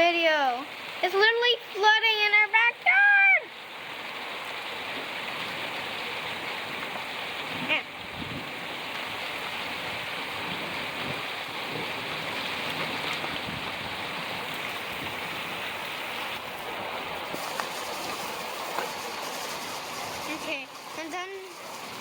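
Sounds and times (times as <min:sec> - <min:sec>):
floodwater rushing: 0:00.0 - 0:22.0
heavy rain pouring: 0:00.0 - 0:22.0.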